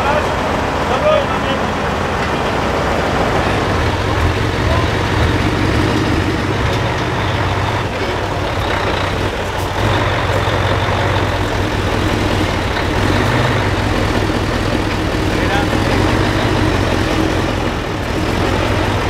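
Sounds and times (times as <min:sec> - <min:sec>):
diesel truck engine under load: 0:00.0 - 0:19.0.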